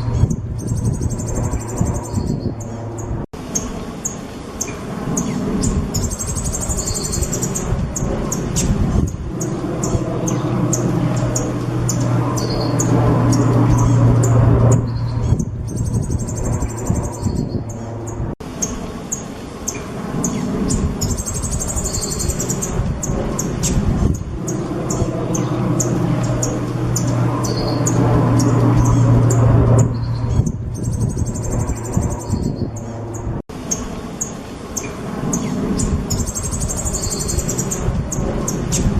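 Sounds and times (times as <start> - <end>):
low steady hum: 0.0 - 38.9
songbird singing chips and trills: 0.0 - 38.9.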